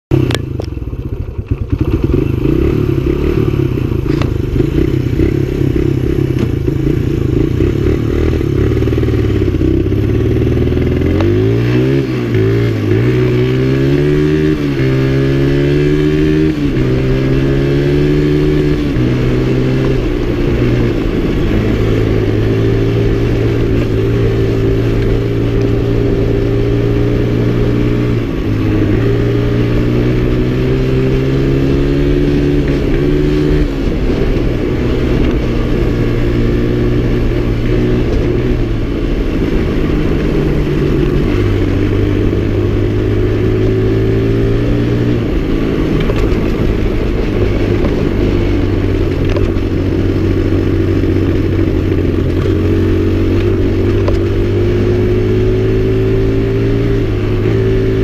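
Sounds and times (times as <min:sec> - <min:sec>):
motorcycle engine shifting gears: 0:00.1 - 0:58.0.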